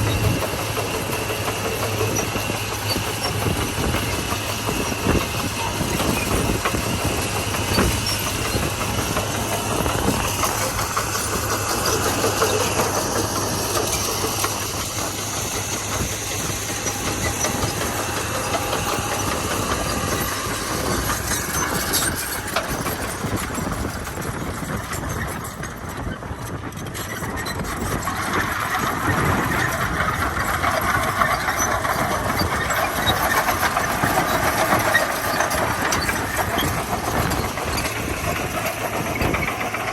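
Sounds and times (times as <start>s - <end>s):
bulldozer diesel engine running: 0.0s - 39.9s
machinery clatter: 0.0s - 39.9s.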